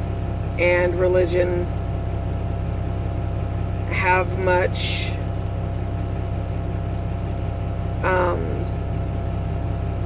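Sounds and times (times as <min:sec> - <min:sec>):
steady low engine hum: 0:00.0 - 0:10.0.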